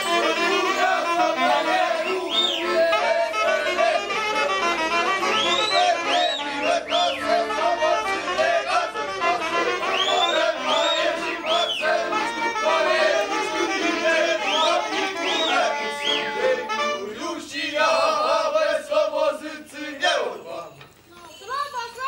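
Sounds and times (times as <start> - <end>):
accordion dance tune: 0.0 - 19.9.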